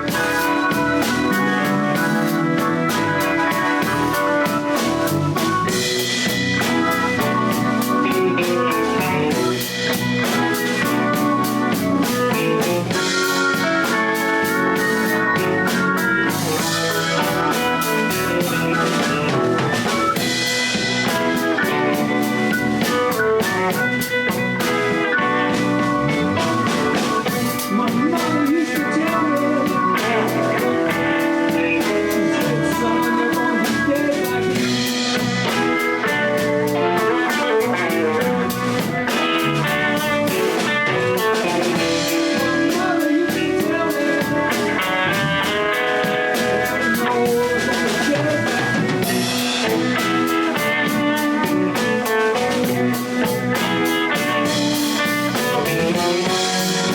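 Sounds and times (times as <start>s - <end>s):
blues guitar: 0.0s - 56.9s
drum kit beat: 0.0s - 56.9s.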